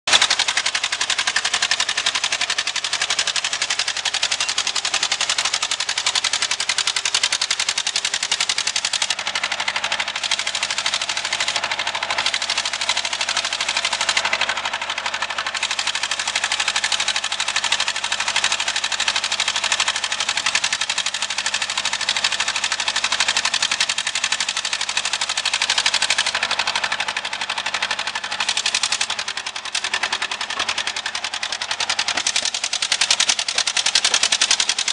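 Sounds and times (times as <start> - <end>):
asphalt paver engine clattering: 0.0 - 34.9.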